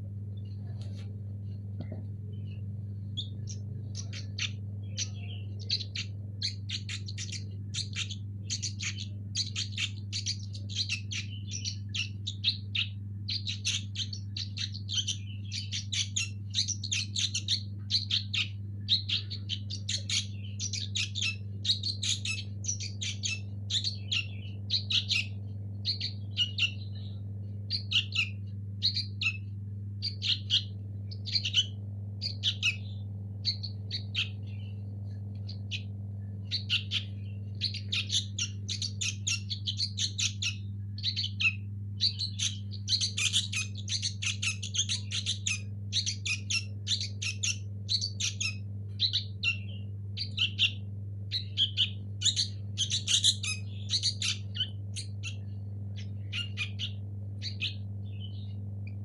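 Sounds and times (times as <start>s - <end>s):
steady low hum: 0.0s - 59.0s
fledglings shrill begging chirps: 3.1s - 27.1s, 27.7s - 34.8s, 36.5s - 58.5s.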